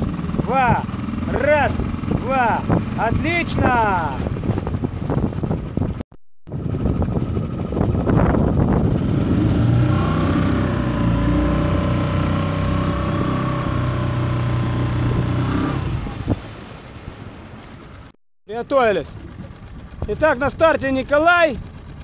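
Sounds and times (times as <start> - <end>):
motor engine running: 0.0 - 16.6, 17.2 - 22.0.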